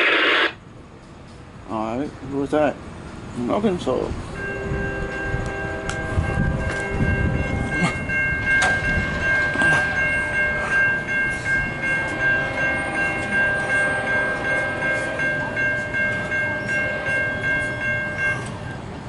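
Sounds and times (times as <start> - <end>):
freight train rumble: 0.0 - 19.0
railroad crossing bell ringing: 3.4 - 19.0.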